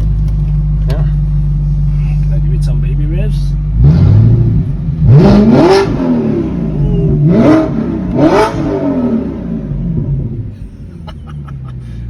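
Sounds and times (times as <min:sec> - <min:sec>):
car engine revving: 0:01.0 - 0:12.0.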